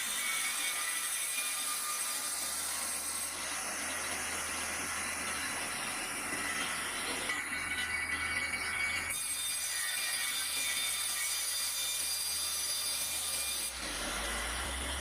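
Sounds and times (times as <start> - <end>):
sawmill machinery whine and hum: 0.0 - 15.0.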